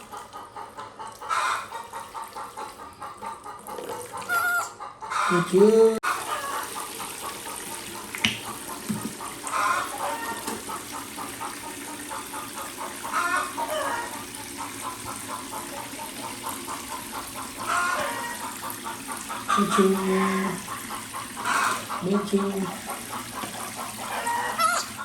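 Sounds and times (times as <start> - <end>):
chicken clucking: 0.0 - 7.6, 8.7 - 25.0.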